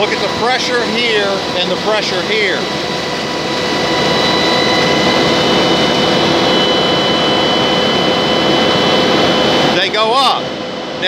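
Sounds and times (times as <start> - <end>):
constant pump whine: 0.0 - 11.0
fire pump water rush: 0.0 - 11.0.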